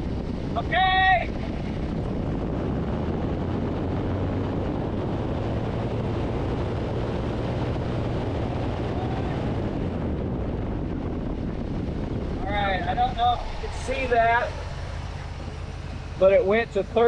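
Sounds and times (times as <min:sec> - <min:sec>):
car engine revving steadily: 0:00.0 - 0:17.0.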